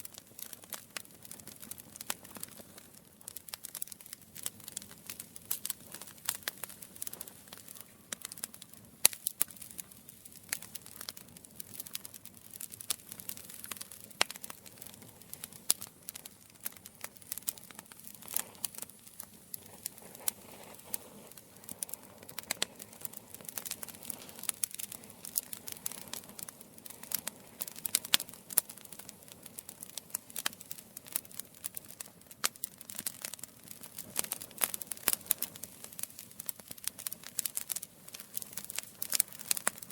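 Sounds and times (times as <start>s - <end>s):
campfire crackling and popping: 0.0s - 39.9s
soft hiss of flames: 0.0s - 39.9s.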